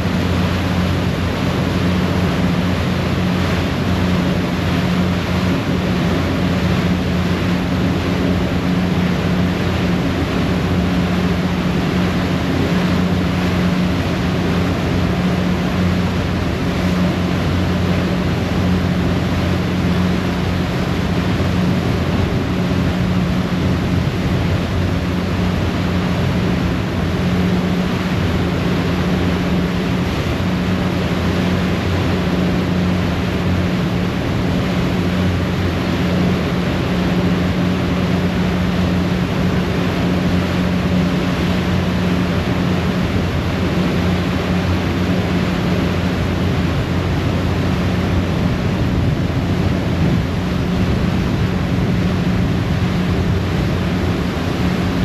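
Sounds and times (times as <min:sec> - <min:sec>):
water churning in propeller wake: 0:00.0 - 0:55.0.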